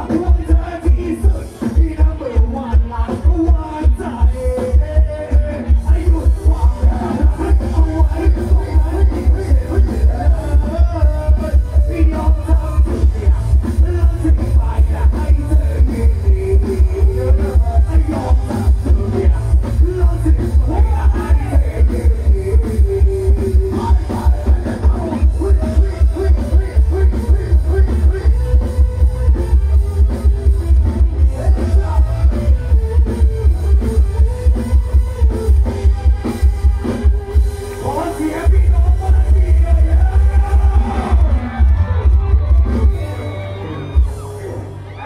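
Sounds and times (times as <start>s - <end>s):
male vocals: 0.0s - 29.1s, 31.2s - 33.3s, 37.8s - 42.8s
heavy bass drum beat: 0.0s - 44.6s.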